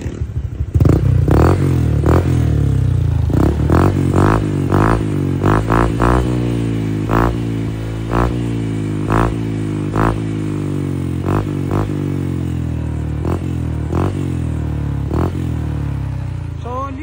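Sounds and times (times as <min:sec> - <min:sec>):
scooter engine idling and revving: 0:00.0 - 0:17.0.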